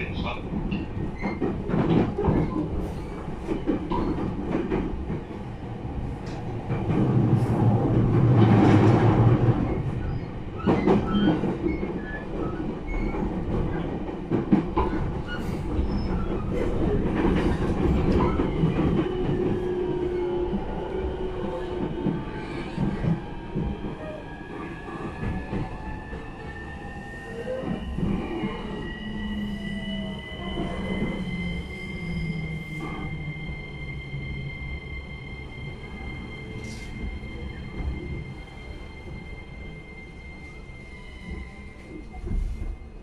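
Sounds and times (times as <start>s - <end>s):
wheels rumbling on rail: 0.0s - 43.0s.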